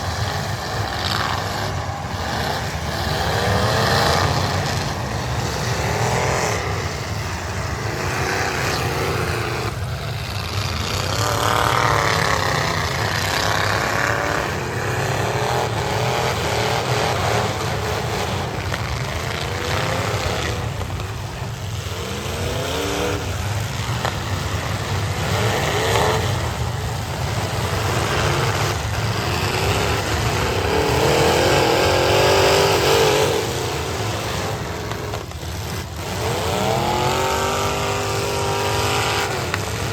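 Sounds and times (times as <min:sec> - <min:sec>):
car engines revving: 0:00.0 - 0:39.9
low rumble of engines: 0:00.0 - 0:39.9.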